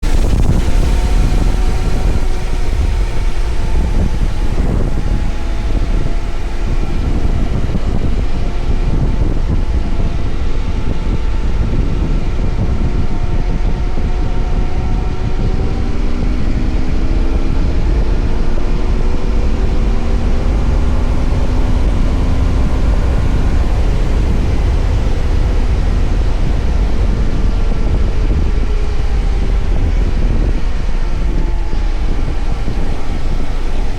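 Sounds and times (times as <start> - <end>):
motorcycle engine running: 0.0 - 33.9
wind rumble on microphone: 0.0 - 33.9.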